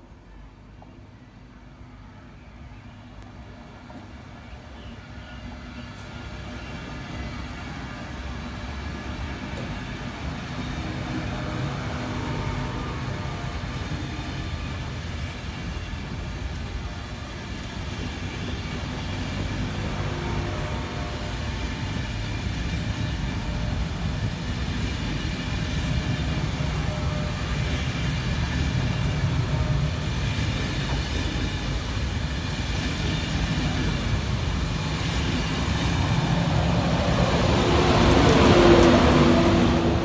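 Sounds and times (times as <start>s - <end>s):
electric locomotive humming: 0.0s - 40.0s
train wheels rumbling on rail: 3.5s - 40.0s.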